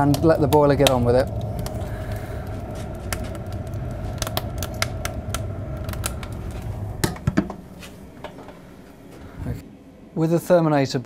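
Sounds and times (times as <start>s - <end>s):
fire crackling: 0.0s - 9.6s
boiler fan humming: 0.0s - 11.0s.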